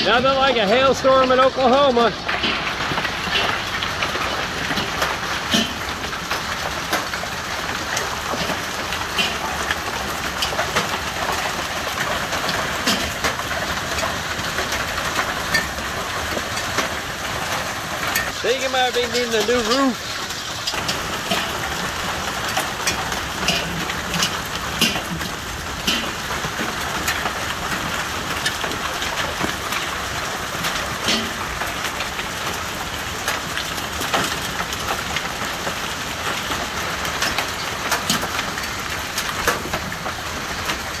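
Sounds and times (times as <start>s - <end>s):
hailstones cracking: 0.0s - 41.0s
heavy rain and hail hissing: 0.0s - 41.0s.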